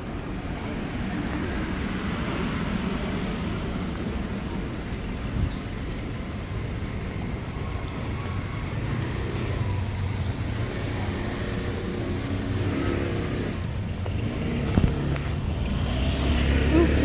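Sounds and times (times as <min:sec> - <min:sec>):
road traffic: 0:00.0 - 0:17.0
vehicle engine running close: 0:00.0 - 0:17.0.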